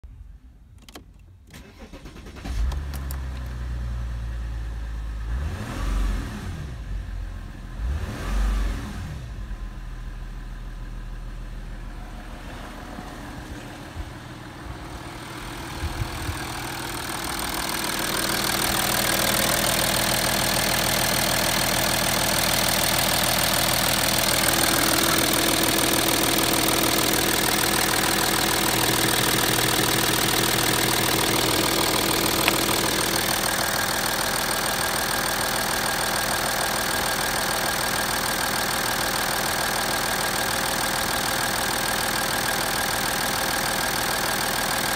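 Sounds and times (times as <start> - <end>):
diesel engine starting and idling: 1.0 - 44.9.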